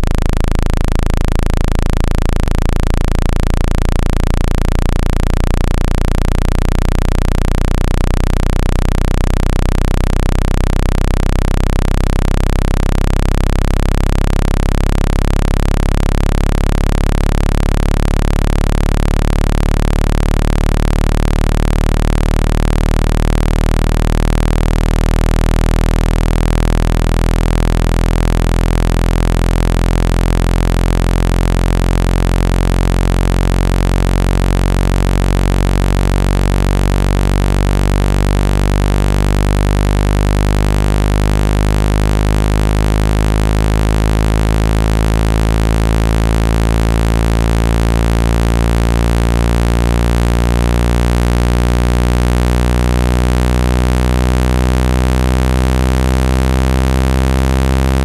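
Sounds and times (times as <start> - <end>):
low synthetic hum tone: 0.0 - 58.0.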